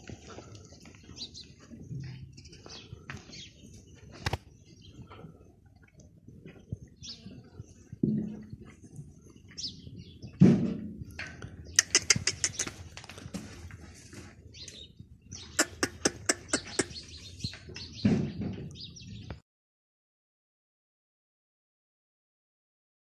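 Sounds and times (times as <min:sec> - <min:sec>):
small birds chirping: 0:00.0 - 0:19.4.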